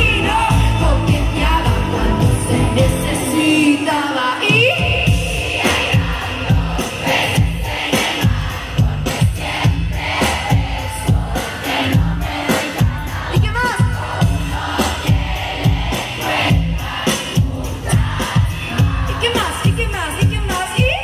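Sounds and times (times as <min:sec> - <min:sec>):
live band playing pop music: 0:00.0 - 0:21.0.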